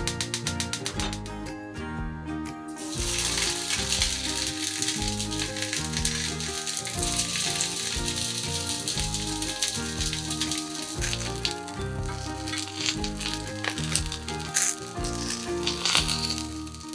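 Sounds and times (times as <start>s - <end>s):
background music: 0.0s - 16.9s
tofu sizzling in hot oil: 2.8s - 16.9s.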